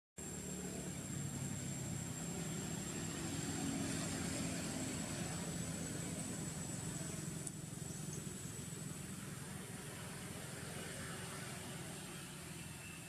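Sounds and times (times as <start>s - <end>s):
engine hum: 0.2s - 13.0s
high-pitched whine: 0.2s - 13.0s.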